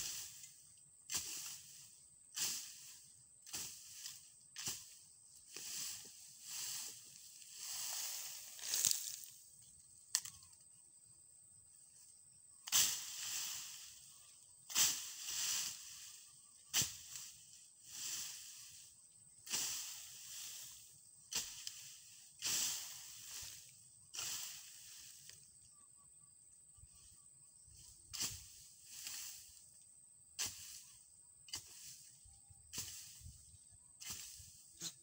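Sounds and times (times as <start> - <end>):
rustling swish of cut brush: 0.0 - 9.4, 12.6 - 25.4, 27.8 - 29.7, 30.4 - 35.0.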